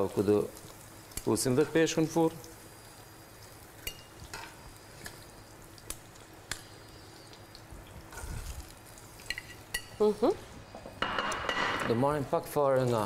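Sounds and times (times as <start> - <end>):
faint sizzle in pan: 0.0 - 13.0.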